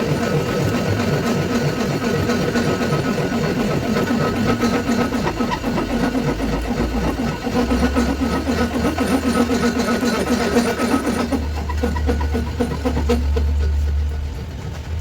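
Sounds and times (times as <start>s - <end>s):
machine drone with low pulse: 0.0s - 15.0s.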